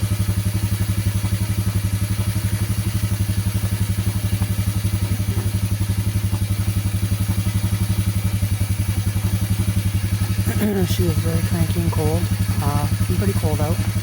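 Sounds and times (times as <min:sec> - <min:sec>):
atv engine idling: 0:00.0 - 0:14.0.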